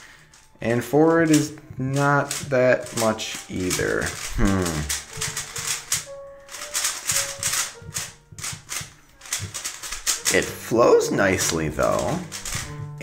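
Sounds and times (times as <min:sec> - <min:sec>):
faint background music: 0:00.0 - 0:13.0
speed cube clicking: 0:01.2 - 0:10.5, 0:11.4 - 0:13.0.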